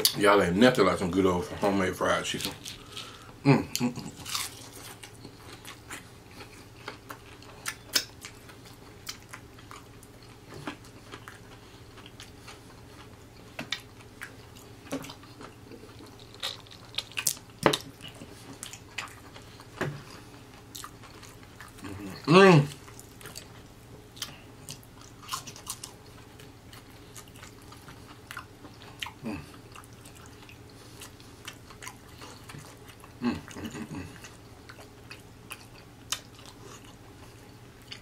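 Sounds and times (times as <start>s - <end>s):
chewing with wet mouth smacks: 2.4s - 38.0s.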